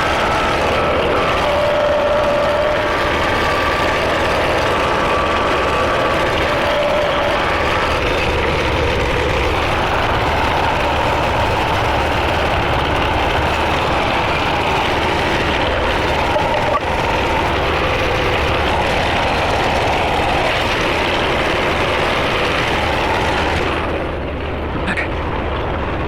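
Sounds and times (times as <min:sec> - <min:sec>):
tractor engine droning: 0:00.0 - 0:26.0.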